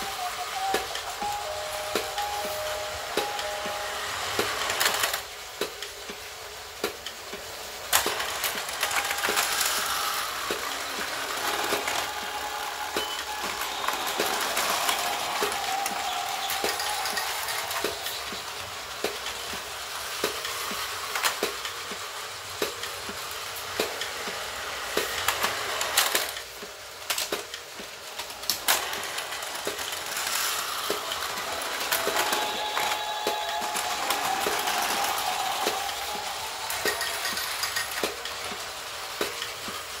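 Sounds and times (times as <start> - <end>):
toy train motor whirring: 0.0 - 40.0.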